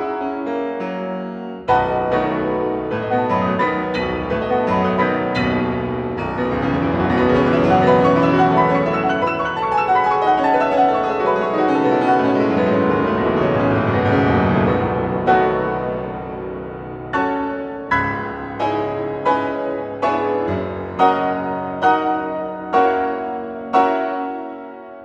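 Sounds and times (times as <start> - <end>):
solo piano playing: 0.0 - 25.0.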